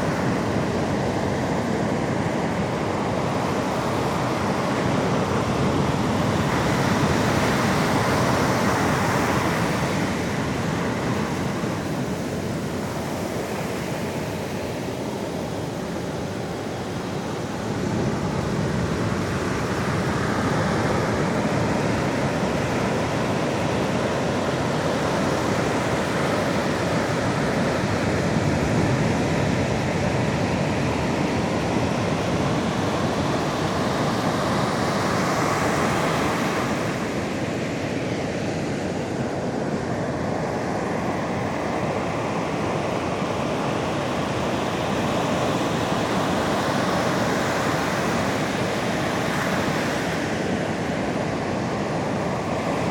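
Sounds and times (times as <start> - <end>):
sea waves washing ashore: 0.0 - 52.9.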